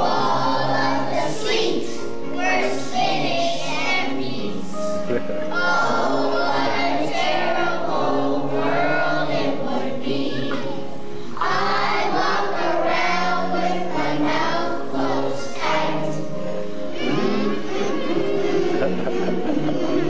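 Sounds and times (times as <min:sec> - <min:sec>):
children singing in chorus: 0:00.0 - 0:20.0.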